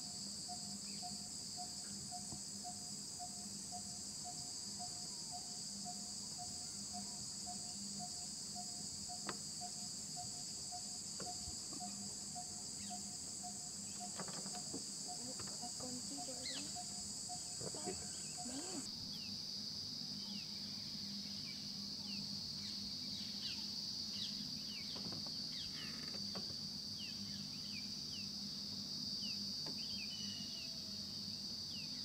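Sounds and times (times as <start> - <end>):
insects chorus: 0.0 - 32.0.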